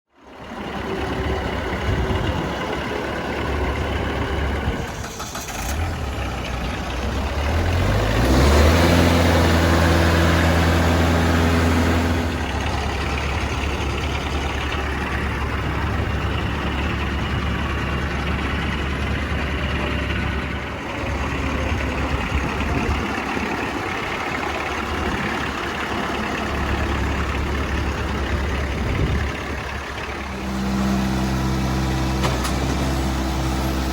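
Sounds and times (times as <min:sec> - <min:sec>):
tractor diesel engine revving: 0:00.2 - 0:33.9.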